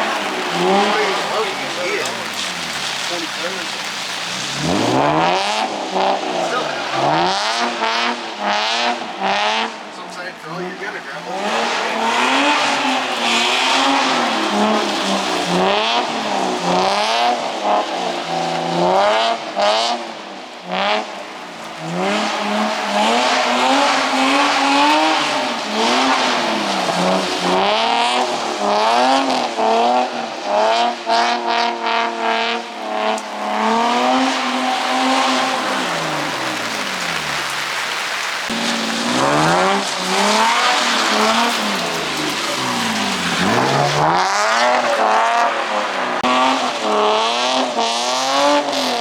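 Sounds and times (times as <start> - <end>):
car engine revving: 0.0 - 49.0
tyre noise on wet pavement: 0.0 - 49.0.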